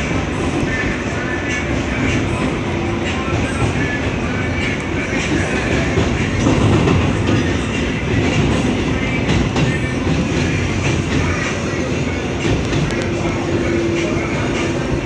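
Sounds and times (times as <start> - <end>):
rail joint clicks: 0.0 - 15.0
subway wheels rumbling on rail: 0.0 - 15.0.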